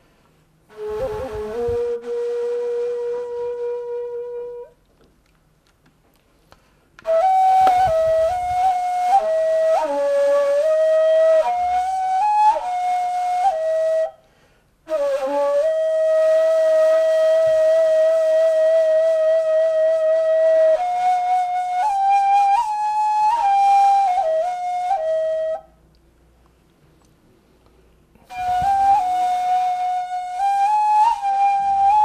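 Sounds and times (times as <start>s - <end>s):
reed flute solo melody: 0.7s - 4.8s, 7.0s - 14.2s, 14.9s - 25.8s, 28.2s - 32.0s.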